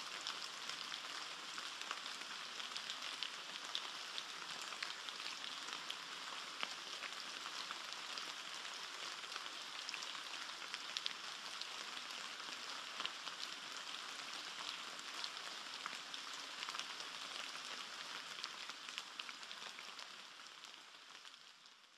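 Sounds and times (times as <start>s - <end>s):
rain pattering on foliage: 0.0s - 21.9s.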